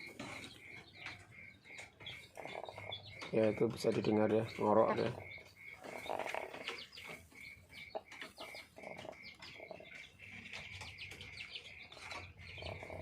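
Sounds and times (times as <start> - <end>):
chicken rattling breathing: 0.0 - 13.0.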